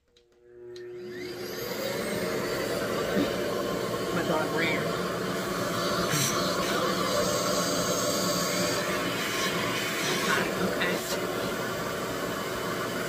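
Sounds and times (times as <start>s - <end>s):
blow dryer air rushing: 0.6s - 13.0s.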